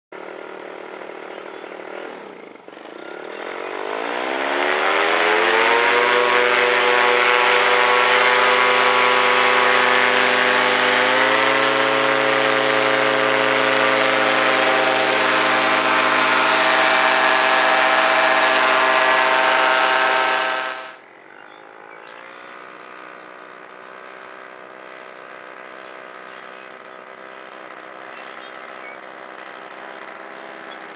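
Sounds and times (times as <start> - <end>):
paramotor engine and propeller: 0.2 - 30.9.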